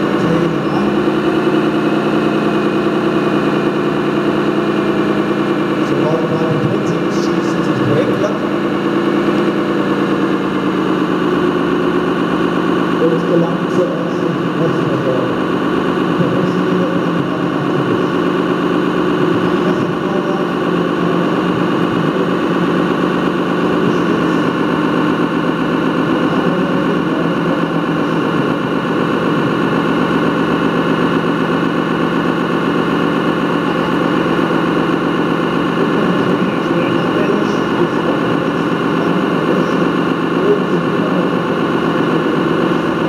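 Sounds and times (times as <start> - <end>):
model vehicle engine hum: 0.0 - 43.0.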